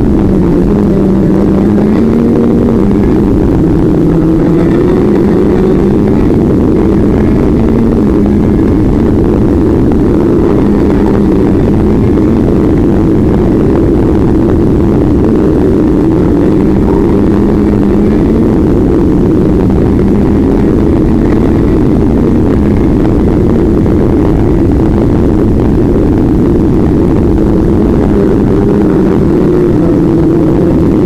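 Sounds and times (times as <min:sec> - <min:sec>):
vehicle running noise: 0:00.0 - 0:31.0.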